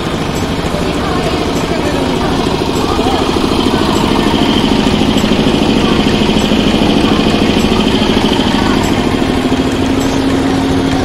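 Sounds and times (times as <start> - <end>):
engine chugging: 0.0 - 11.0
high whine: 0.0 - 11.0.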